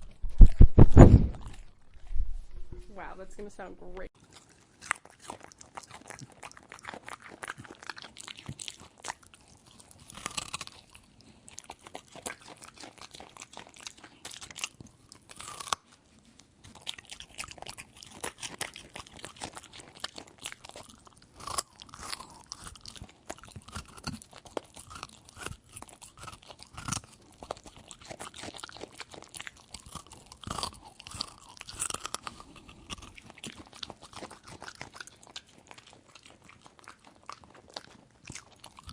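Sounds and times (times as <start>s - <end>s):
dog crunching and chewing food: 0.0s - 2.6s, 4.2s - 38.9s.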